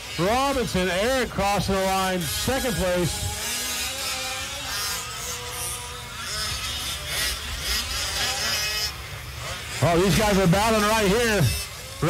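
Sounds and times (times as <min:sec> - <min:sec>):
rc truck engines buzzing: 0:00.0 - 0:12.0.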